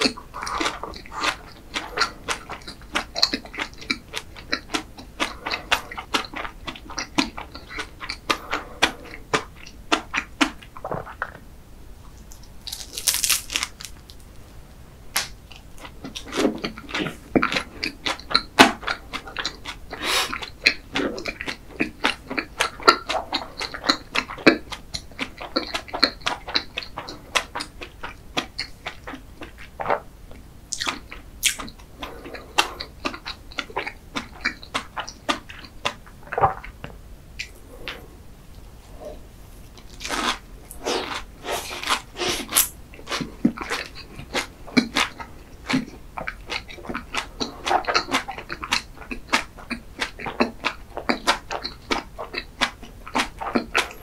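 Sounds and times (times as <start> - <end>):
wet chewing and lip smacking: 0.0 - 11.4, 15.2 - 38.1, 39.7 - 54.0.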